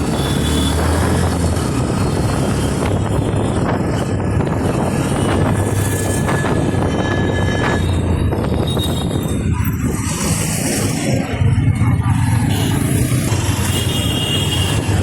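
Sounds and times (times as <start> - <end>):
motorcycle road noise: 0.0 - 15.0
wind noise: 0.0 - 15.0.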